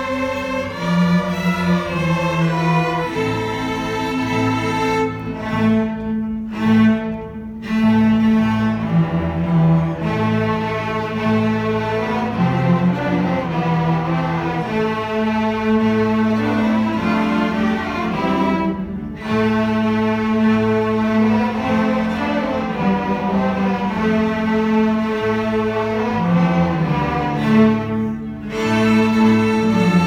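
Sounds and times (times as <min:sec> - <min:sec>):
string orchestra playing: 0:00.0 - 0:30.0.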